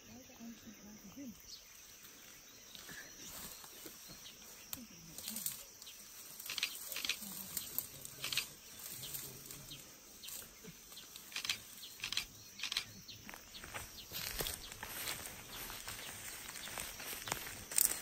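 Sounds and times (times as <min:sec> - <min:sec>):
undergrowth crackling underfoot: 0:01.4 - 0:18.0.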